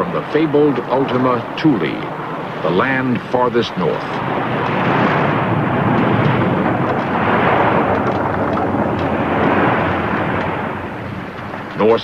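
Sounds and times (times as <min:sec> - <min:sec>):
churning water: 0:00.0 - 0:12.0
glacier calving roar: 0:00.0 - 0:12.0.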